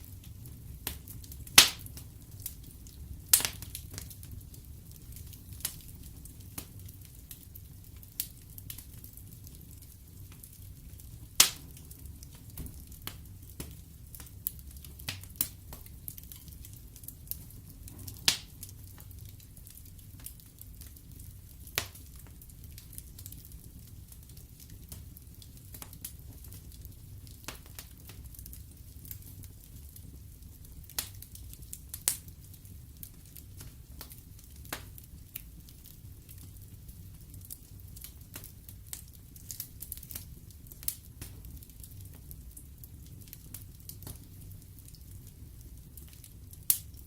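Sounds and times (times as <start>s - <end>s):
logs crackling and popping: 0.0s - 47.0s
low rumble of flames: 0.0s - 47.0s.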